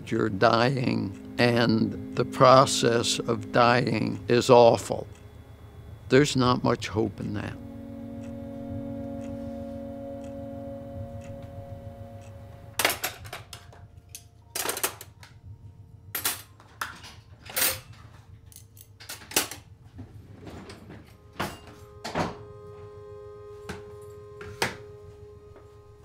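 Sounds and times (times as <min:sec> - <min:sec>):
faint held music notes: 0:00.0 - 0:16.8, 0:20.8 - 0:26.0.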